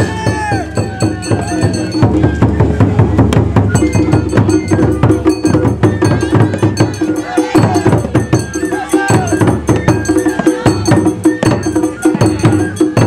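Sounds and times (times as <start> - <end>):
struck percussion: 0.0 - 13.0
taiko drums beaten fast: 0.0 - 13.0.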